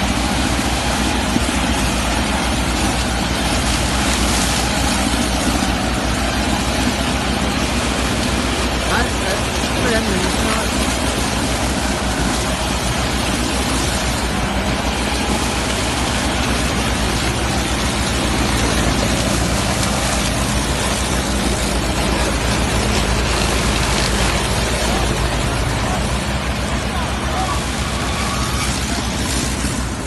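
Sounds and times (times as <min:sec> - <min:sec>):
continuous mechanical rush: 0:00.0 - 0:30.0
harvester engine running: 0:00.0 - 0:30.0.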